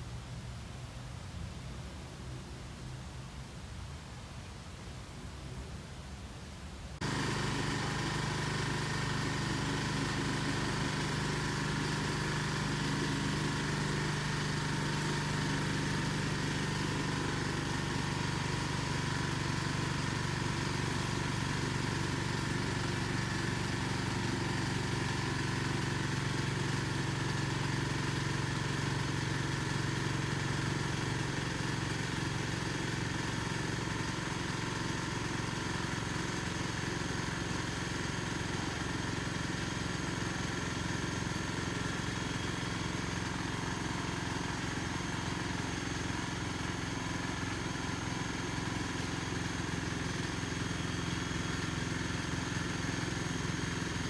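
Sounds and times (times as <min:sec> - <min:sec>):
steady engine drone: 0:07.0 - 0:54.0.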